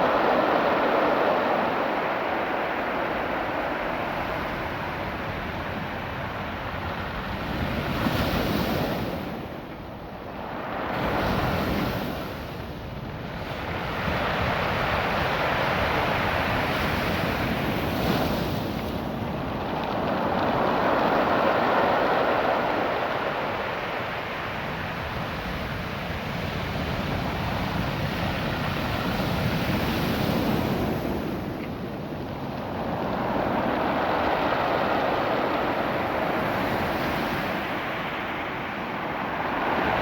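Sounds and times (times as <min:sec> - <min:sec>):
surf washing over beach: 0:00.0 - 0:40.0
wind buffeting microphone: 0:00.0 - 0:40.0.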